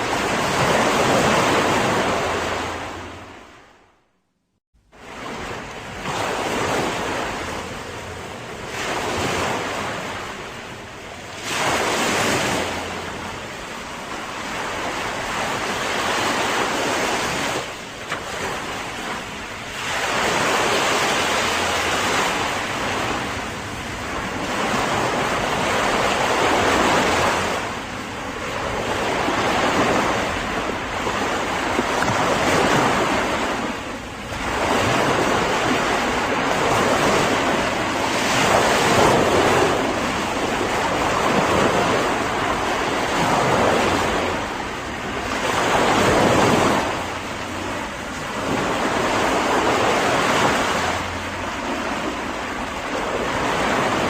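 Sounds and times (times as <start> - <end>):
ocean waves breaking on shore: 0.0 - 4.1, 4.8 - 54.0.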